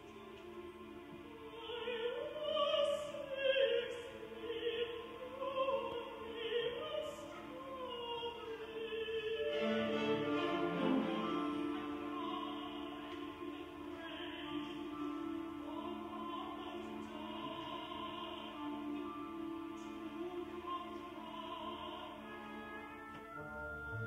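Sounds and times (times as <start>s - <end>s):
woman singing opera: 0.0s - 23.4s
string orchestra: 0.0s - 24.0s.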